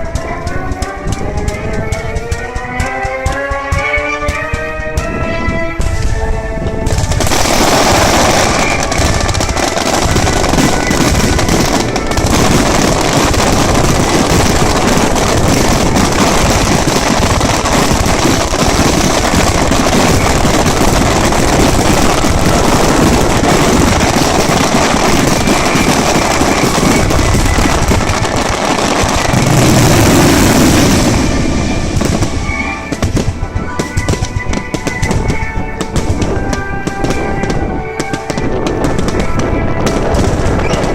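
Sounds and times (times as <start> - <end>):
music: 0.0 - 29.4, 30.9 - 40.9
fireworks bursting and crackling: 0.0 - 40.9.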